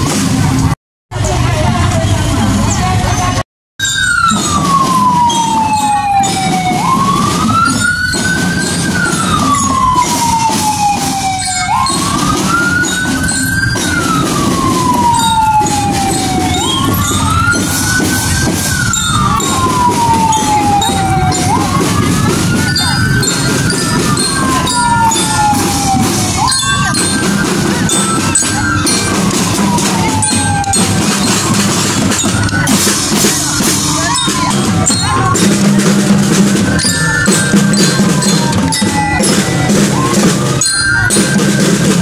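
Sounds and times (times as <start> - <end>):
wail siren: 3.8 - 42.0.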